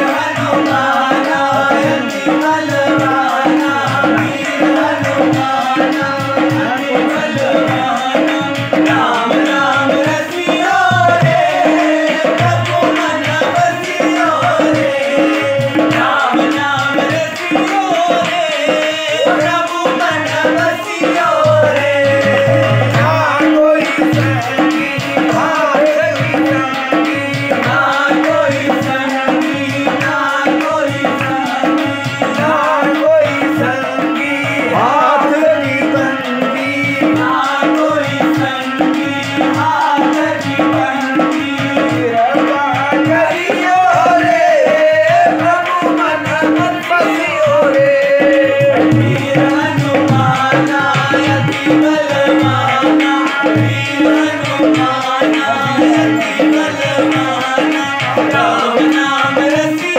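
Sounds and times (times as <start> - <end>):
harmonium drone: 0.0 - 59.9
man singing: 0.0 - 59.9
tabla rhythm: 0.0 - 59.9.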